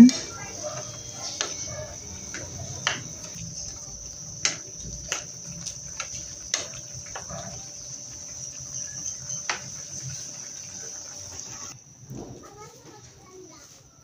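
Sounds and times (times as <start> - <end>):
sauce simmering: 0.2 - 11.8.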